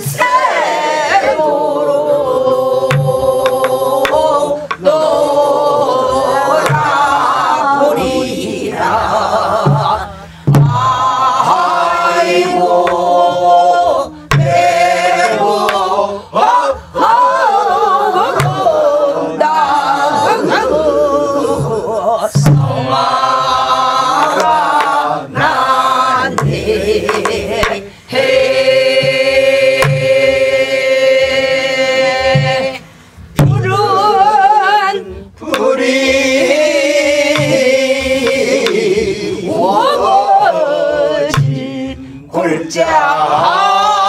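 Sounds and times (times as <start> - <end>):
voices singing folk song together: 0.0 - 44.0
barrel drum strokes: 2.3 - 40.5, 41.2 - 42.0.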